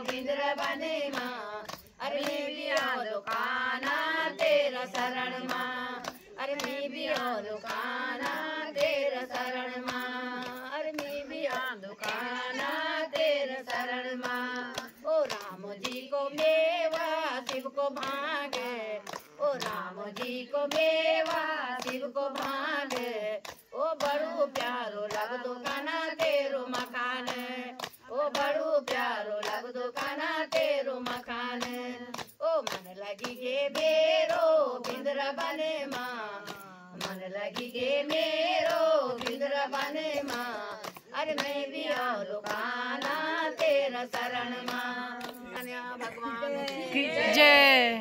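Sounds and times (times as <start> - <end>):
rhythmic hand-clapping: 0.0 - 48.0
women singing together: 0.0 - 48.0.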